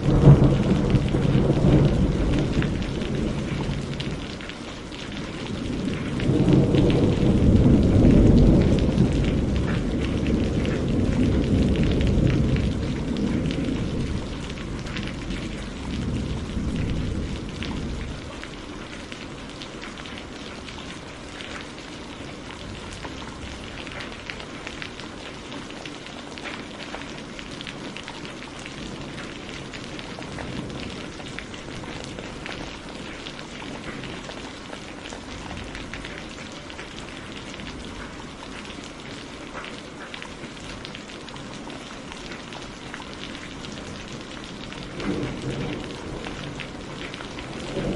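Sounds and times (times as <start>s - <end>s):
low rumble of thunder: 0.0s - 25.7s, 26.4s - 39.6s, 40.4s - 47.9s
steady rain: 0.0s - 47.9s.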